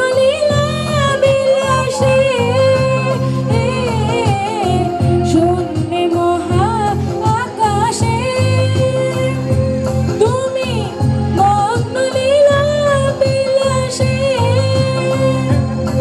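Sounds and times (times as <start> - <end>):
person singing through loudspeaker: 0.0 - 16.0.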